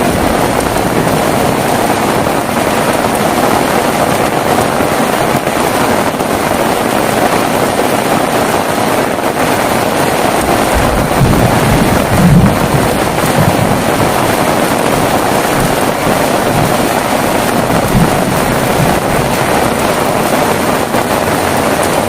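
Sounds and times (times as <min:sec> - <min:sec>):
heavy rain falling: 0:00.0 - 0:22.0
thunder rumbling: 0:00.0 - 0:22.0.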